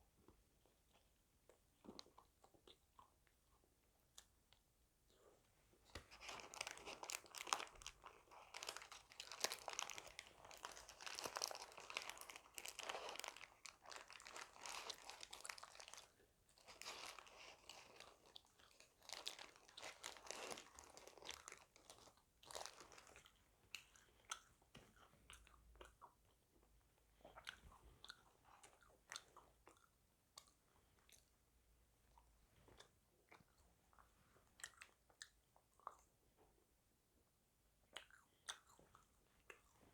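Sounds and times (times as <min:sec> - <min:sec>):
crunching and chewing fried chicken: 0:00.0 - 0:36.8, 0:37.7 - 0:39.9.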